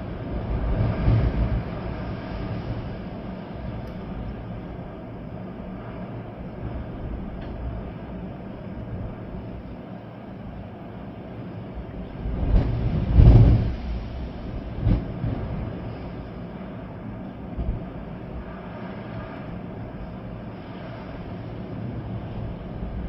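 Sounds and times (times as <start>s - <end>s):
rain: 0.0s - 23.0s
storm wind gusting: 0.0s - 23.0s.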